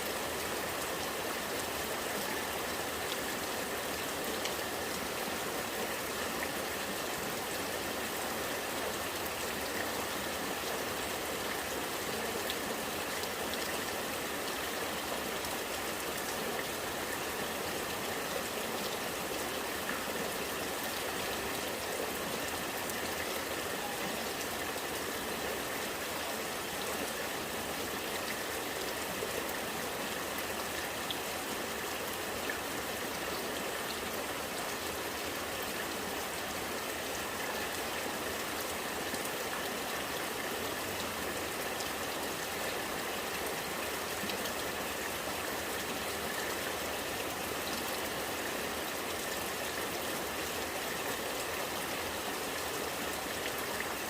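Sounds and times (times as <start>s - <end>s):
rainwater gurgling and trickling: 0.0s - 54.0s.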